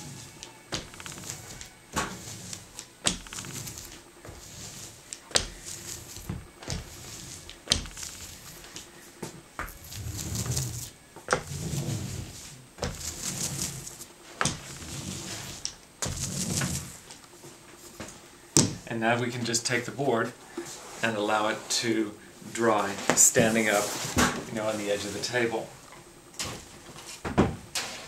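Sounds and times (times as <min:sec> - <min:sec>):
hand roller rolling over paper: 0:00.0 - 0:25.5.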